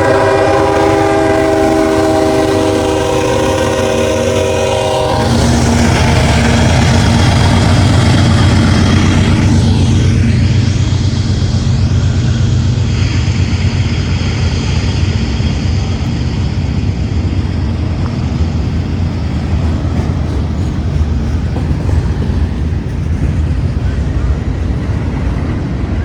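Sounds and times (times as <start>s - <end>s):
diesel locomotive drone: 0.0s - 26.0s
freight train wheels rumbling: 0.0s - 26.0s.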